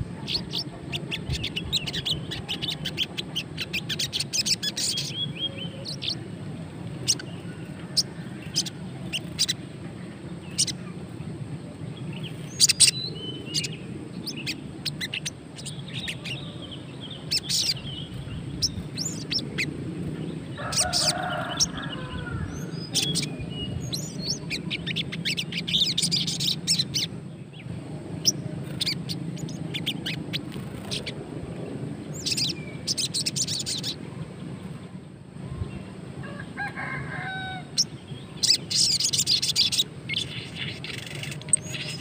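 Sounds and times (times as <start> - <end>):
bird chirping and twittering: 0.0 - 34.8, 37.2 - 42.0.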